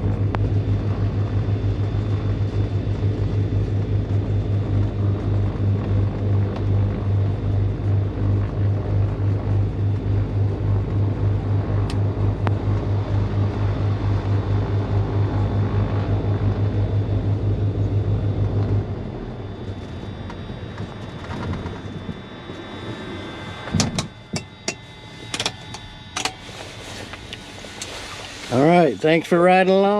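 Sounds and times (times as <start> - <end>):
piston aircraft engines idling: 0.0 - 29.9.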